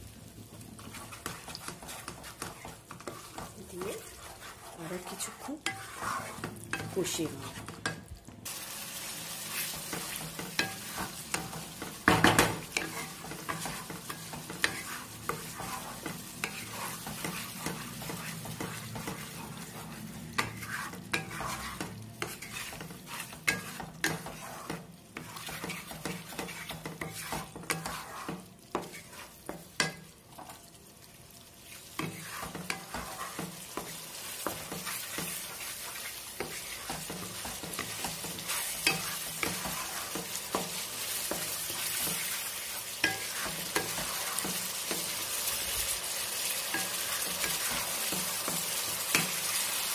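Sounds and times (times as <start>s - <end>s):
paste sizzling in oil: 0.0s - 49.9s
spatula scraping a pan: 0.5s - 8.0s, 9.0s - 30.7s, 31.6s - 49.9s.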